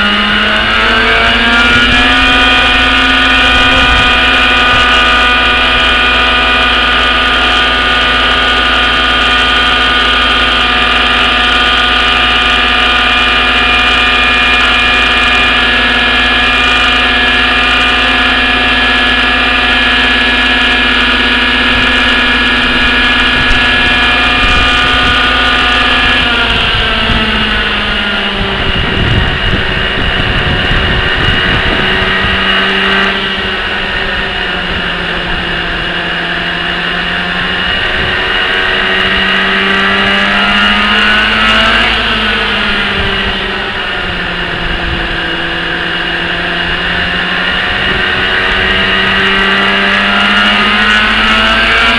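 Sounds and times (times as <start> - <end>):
model helicopter engine running: 0.0 - 51.9.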